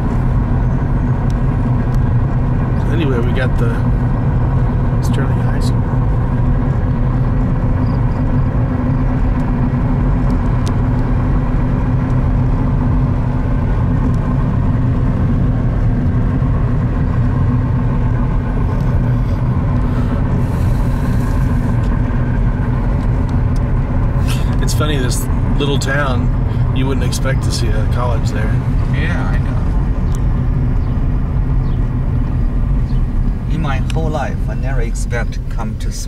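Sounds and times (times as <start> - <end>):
car cabin engine and road rumble: 0.0 - 36.0.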